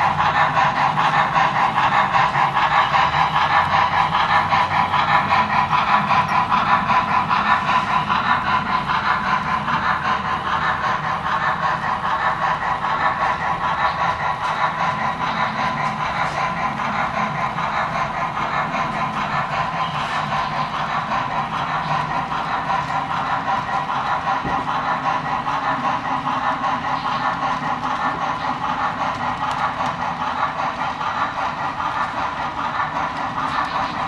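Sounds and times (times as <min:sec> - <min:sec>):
model steam locomotive chuffing: 0:00.0 - 0:34.0
train cars rolling: 0:00.0 - 0:34.0.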